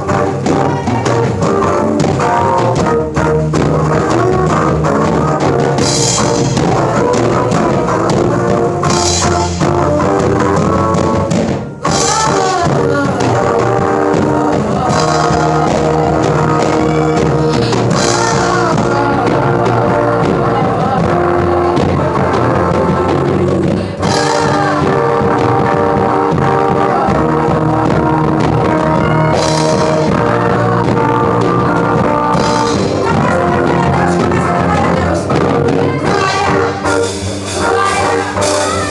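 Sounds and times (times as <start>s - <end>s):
live band playing rock music: 0.0s - 38.9s.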